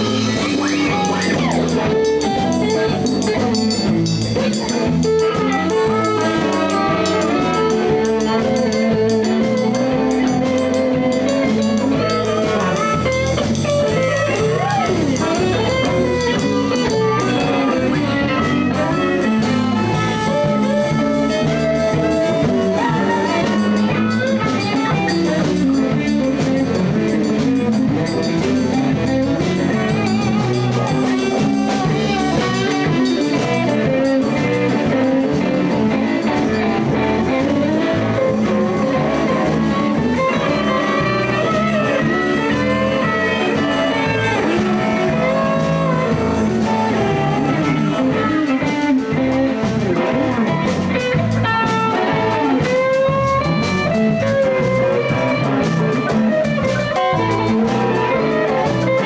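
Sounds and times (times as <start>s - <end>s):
bass: 0.0s - 59.0s
drum kit: 0.0s - 59.0s
electric guitar: 0.0s - 59.0s.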